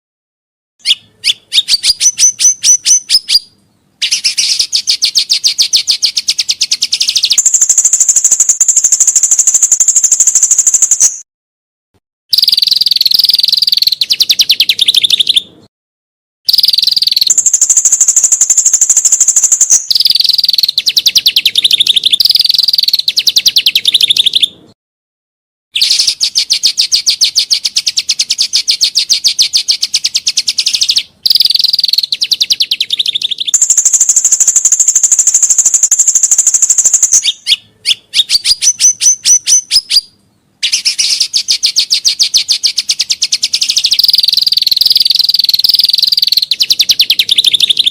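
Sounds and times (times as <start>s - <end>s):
bird whistled rising notes: 0.8s - 11.2s, 12.3s - 15.5s, 16.5s - 24.6s, 25.8s - 47.9s
songbird trilling: 0.8s - 11.2s, 12.3s - 15.5s, 16.5s - 24.6s, 25.8s - 47.9s.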